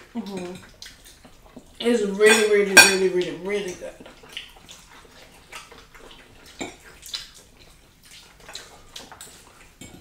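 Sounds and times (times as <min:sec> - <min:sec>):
wet chewing and lip-smacking: 0:00.0 - 0:10.0.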